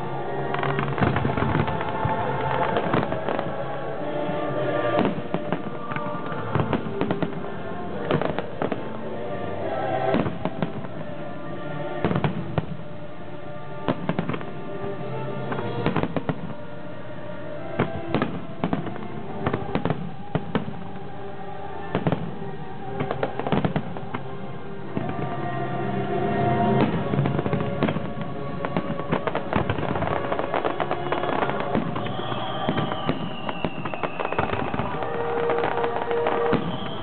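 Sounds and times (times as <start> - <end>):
fireworks bursting: 0.0 - 13.1, 13.7 - 25.6, 26.3 - 37.0.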